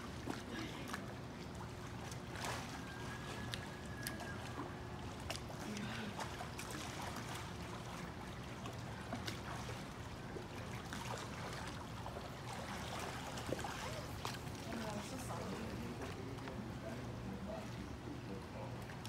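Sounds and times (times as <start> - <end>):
small splashes: 0.0 - 16.8
pool water sloshing: 0.0 - 19.0.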